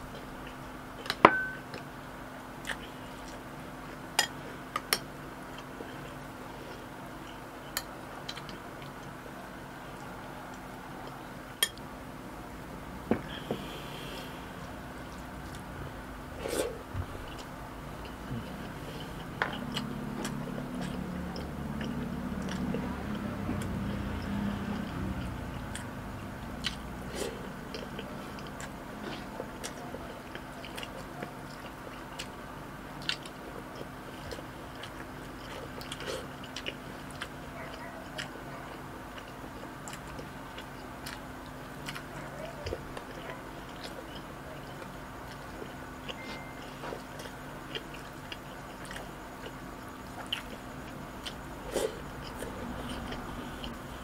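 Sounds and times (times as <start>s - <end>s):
person chewing food: 2.6s - 11.8s, 13.1s - 54.0s.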